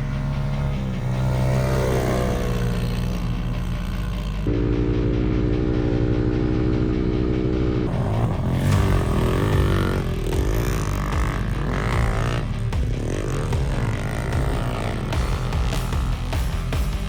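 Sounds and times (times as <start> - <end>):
small motorbike engines revving: 0.0 - 17.0.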